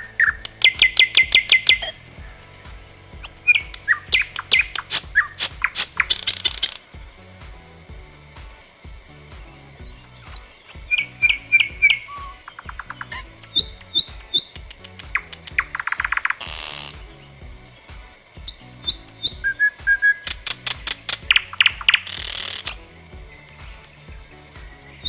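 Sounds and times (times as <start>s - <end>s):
harsh rasping bird note: 0.0s - 25.0s
nightingale singing: 0.0s - 25.0s
quiet background music: 0.0s - 25.0s.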